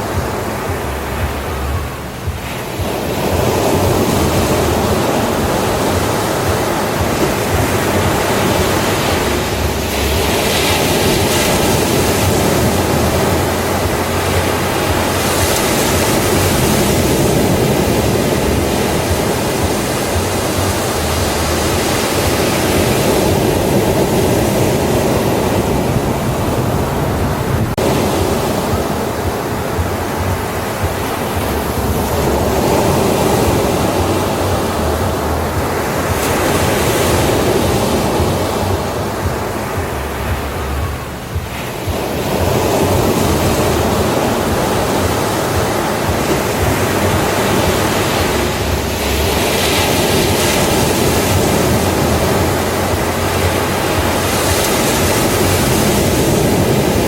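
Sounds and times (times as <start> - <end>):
ocean waves on a beach: 0.0 - 57.0.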